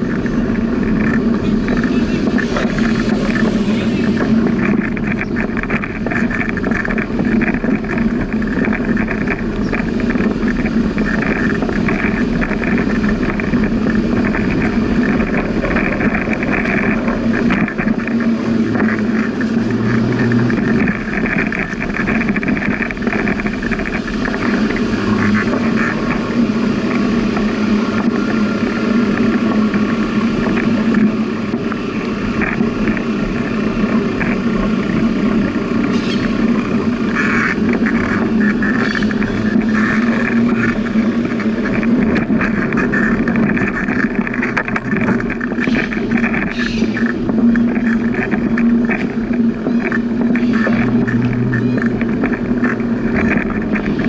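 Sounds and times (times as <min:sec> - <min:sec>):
bicycle tyre noise: 0:00.0 - 0:54.0
wind on microphone: 0:00.0 - 0:54.0.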